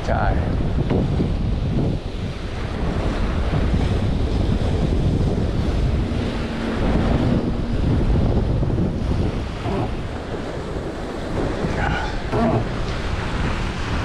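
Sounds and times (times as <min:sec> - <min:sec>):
water splashing along hull: 0:00.0 - 0:14.0
wind buffeting microphone: 0:00.0 - 0:14.0.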